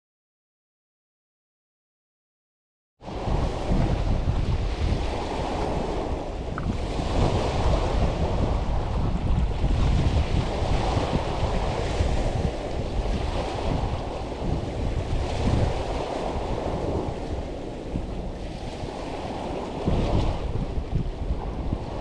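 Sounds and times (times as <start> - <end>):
waves washing on shore: 3.0 - 22.0
wind buffeting microphone: 3.0 - 22.0.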